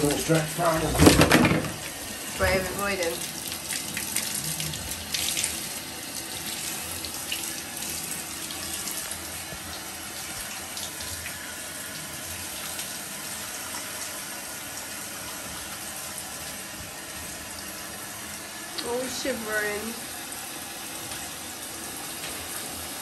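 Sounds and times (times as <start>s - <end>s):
shower water spraying: 0.0s - 23.0s
water splashing into bathtub: 0.0s - 23.0s.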